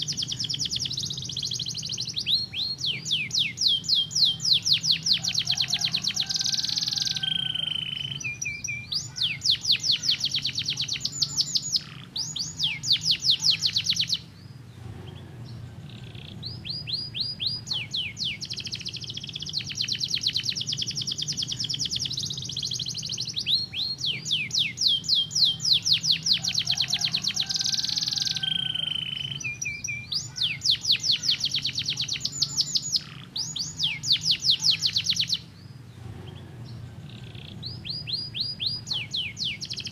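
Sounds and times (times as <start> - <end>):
steady low hum: 0.0 - 27.4, 29.3 - 39.9
canary singing: 0.0 - 39.9.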